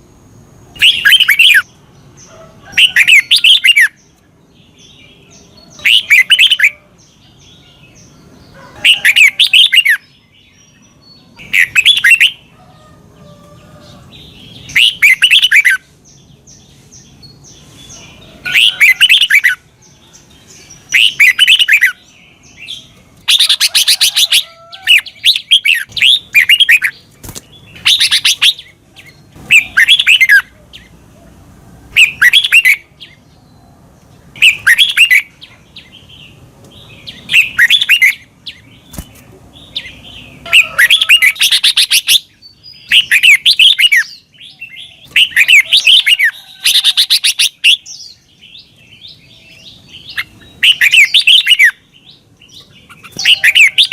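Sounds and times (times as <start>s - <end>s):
bird singing warbled phrases: 0.0s - 53.9s.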